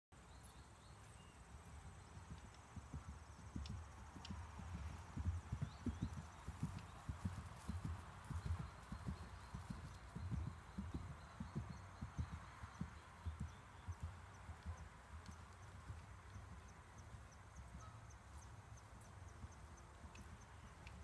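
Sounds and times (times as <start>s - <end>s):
horse hoofbeats cantering on turf: 1.6s - 21.0s.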